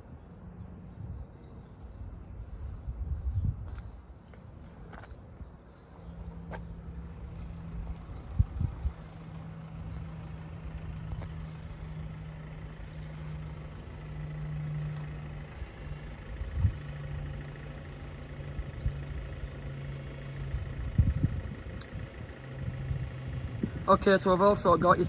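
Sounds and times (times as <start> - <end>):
engine idling: 2.0 - 25.0.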